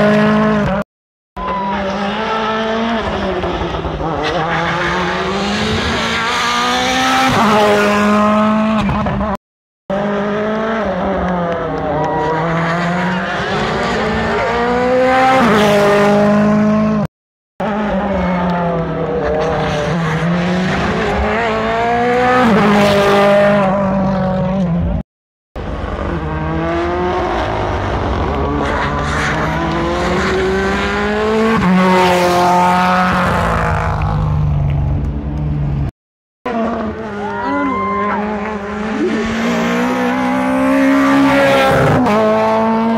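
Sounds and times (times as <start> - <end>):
rally car engines revving past: 1.5 - 25.0, 25.7 - 35.9, 36.5 - 42.9.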